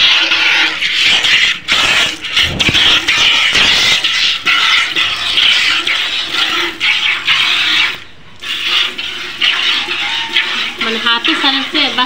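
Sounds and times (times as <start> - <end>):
milk squirting into a pail: 0.0 - 12.0.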